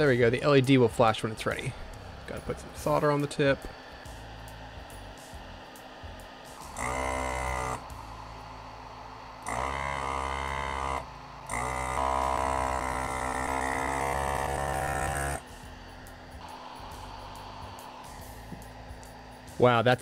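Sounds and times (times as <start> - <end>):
desoldering gun vacuum pump whine: 0.0 - 20.0.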